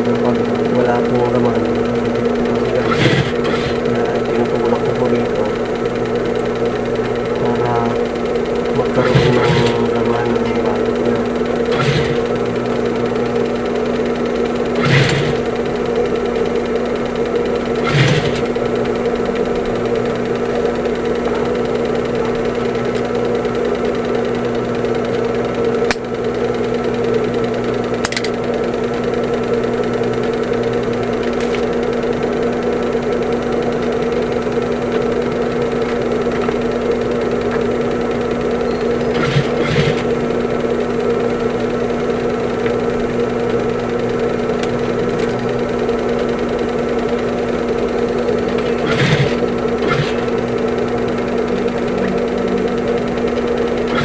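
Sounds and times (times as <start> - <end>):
sewing machine running: 0.0 - 54.0.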